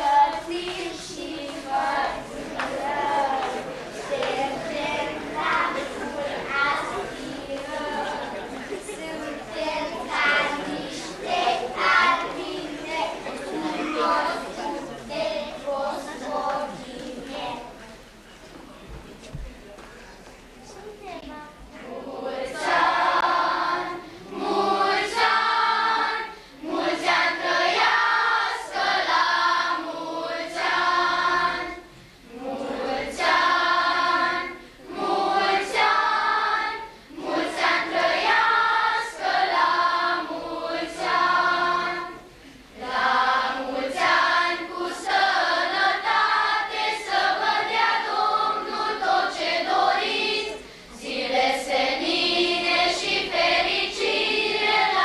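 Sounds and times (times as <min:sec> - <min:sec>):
children's choir singing: 0:00.0 - 0:18.8, 0:21.6 - 0:55.0.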